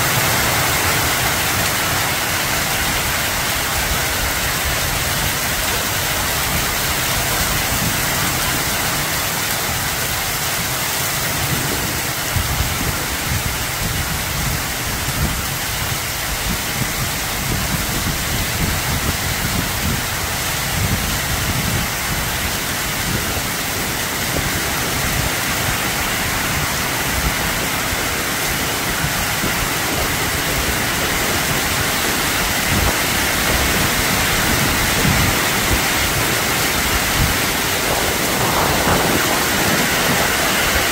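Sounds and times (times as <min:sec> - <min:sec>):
heavy rain and hail: 0:00.0 - 0:40.9.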